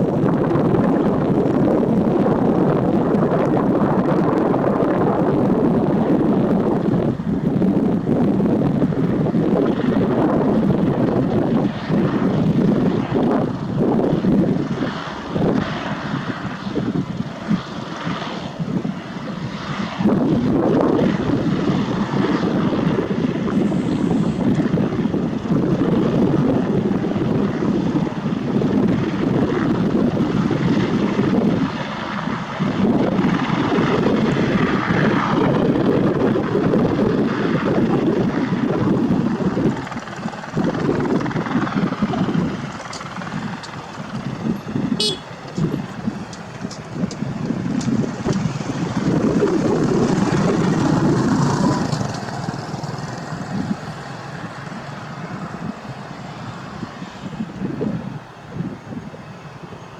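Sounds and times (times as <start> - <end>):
aircraft rumbling: 0.0 - 59.9
wind buffeting microphone: 0.0 - 59.9.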